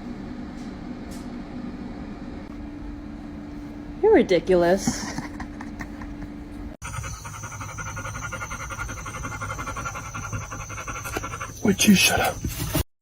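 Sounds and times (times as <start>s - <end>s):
low background hum: 0.0s - 12.8s.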